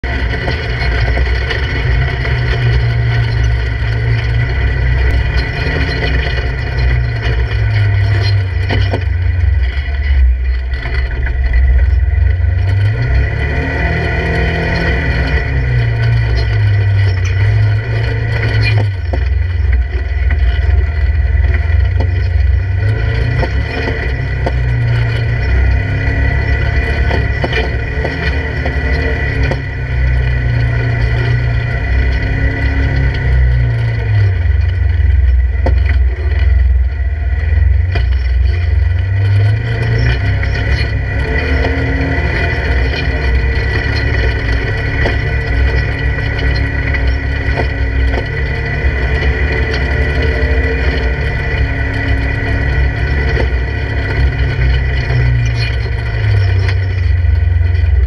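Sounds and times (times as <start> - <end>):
engine running at low speed: 0.0 - 58.0.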